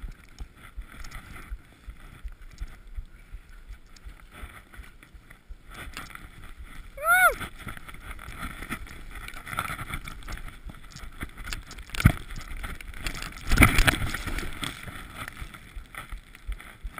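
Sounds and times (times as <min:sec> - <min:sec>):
rushing wind: 0:00.0 - 0:16.9
skis running through snow: 0:00.0 - 0:16.9.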